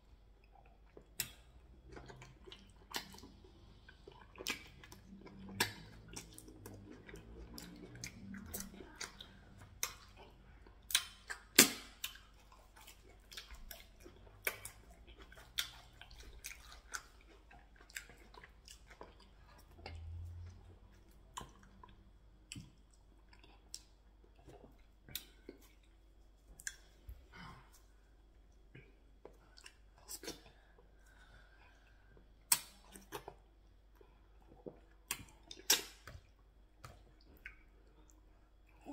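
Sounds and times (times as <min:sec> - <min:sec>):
soft chewing with wet clicks: 0:00.0 - 0:38.9.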